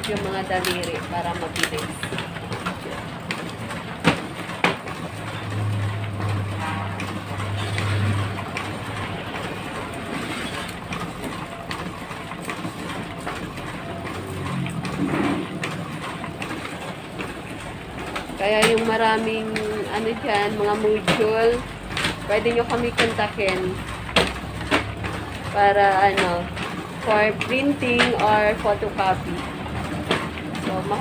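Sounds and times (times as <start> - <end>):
photocopier running: 0.0 - 31.0.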